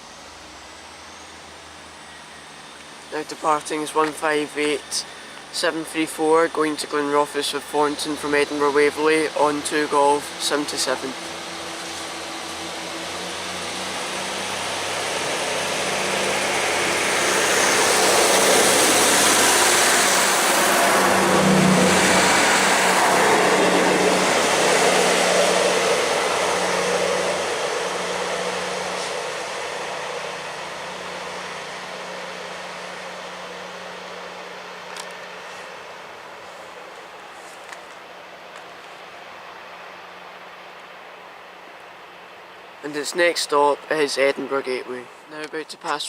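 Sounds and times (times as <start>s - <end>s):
wheels rushing on rail: 0.0s - 44.4s
diesel train engines droning: 0.0s - 46.0s.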